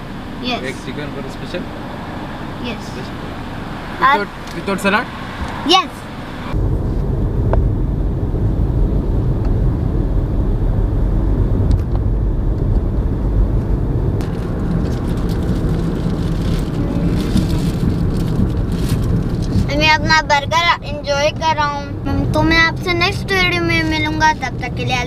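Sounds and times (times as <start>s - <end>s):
car engine rumble from inside: 0.0s - 25.0s.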